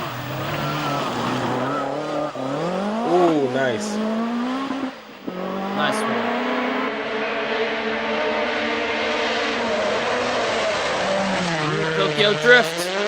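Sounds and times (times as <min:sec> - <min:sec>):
rally car engine at high revs: 0:00.0 - 0:13.0.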